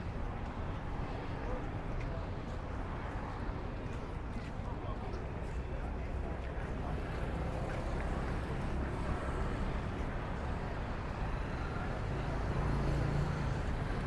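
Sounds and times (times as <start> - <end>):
cars passing on street: 0.0 - 14.0.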